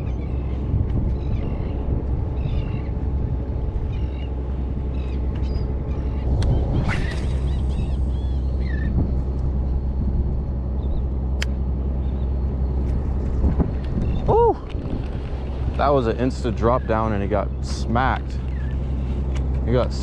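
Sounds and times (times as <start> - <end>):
birds calling: 0.0 - 9.1, 10.8 - 19.5
water: 0.0 - 20.0
wind: 0.0 - 20.0.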